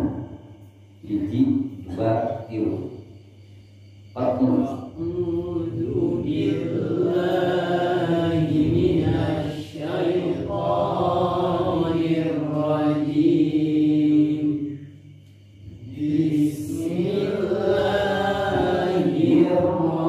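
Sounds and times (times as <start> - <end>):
man chanting melodically: 0.0 - 0.4, 1.0 - 3.0, 4.1 - 14.8, 15.6 - 20.0.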